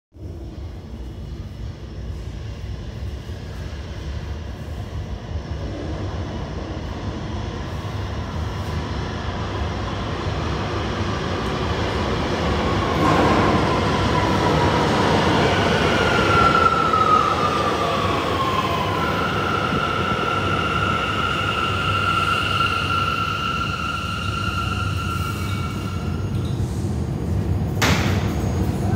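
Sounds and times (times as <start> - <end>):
subway train rumble: 0.1 - 28.9.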